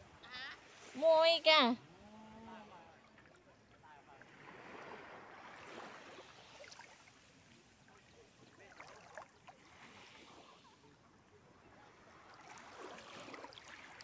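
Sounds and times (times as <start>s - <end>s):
sea water lapping at shore: 0.1s - 14.0s.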